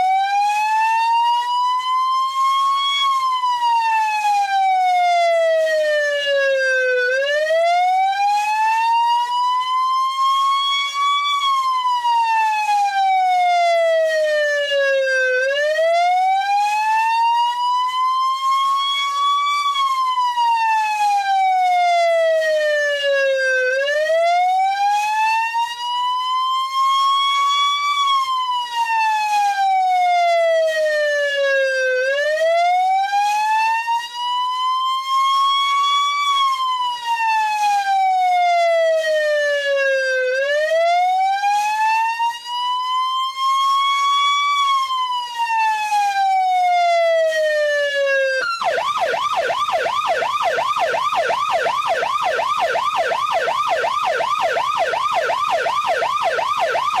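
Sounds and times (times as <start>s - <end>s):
police siren wailing: 0.0s - 57.0s.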